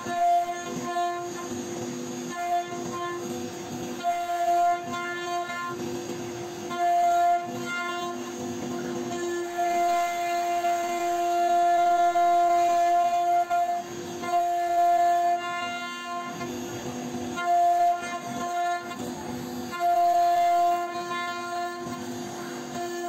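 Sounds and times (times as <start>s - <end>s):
router bit cutting wood: 0.0s - 23.0s
router spindle whining: 0.0s - 23.0s.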